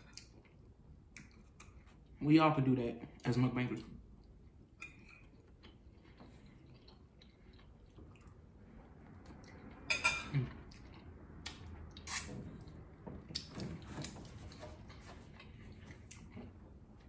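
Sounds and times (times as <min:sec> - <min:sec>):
chewing food: 0:00.0 - 0:02.2, 0:03.8 - 0:14.3, 0:15.3 - 0:17.0.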